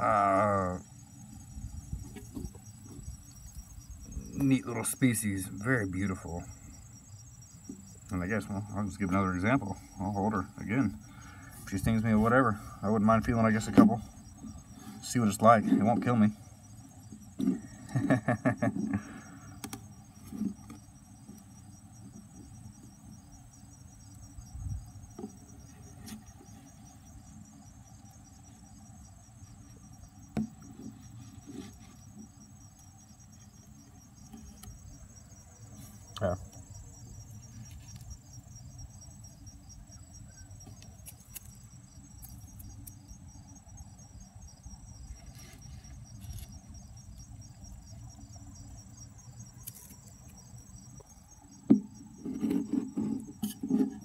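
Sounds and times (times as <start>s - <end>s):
high-pitched insect trill: 0.0s - 54.0s.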